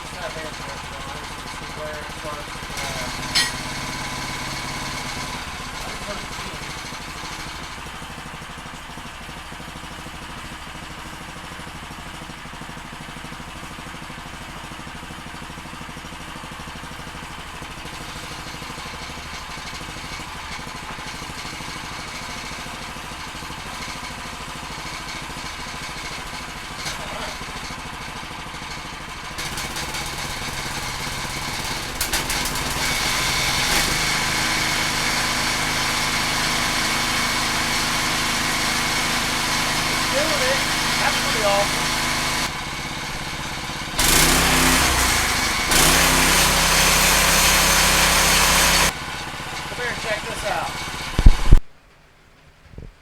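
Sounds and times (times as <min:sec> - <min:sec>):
small gas engine running: 0:00.0 - 0:51.6.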